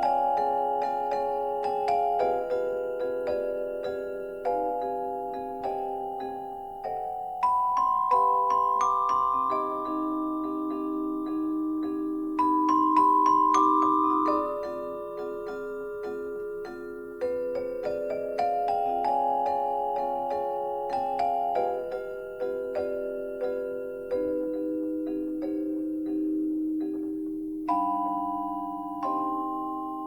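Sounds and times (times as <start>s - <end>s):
mallet percussion melody: 0.0s - 30.0s.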